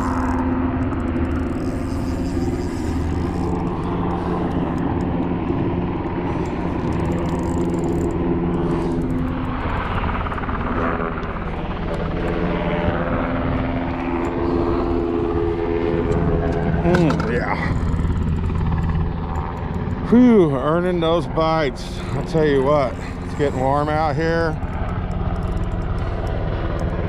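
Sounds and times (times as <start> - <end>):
aircraft flying overhead: 0.0 - 27.0.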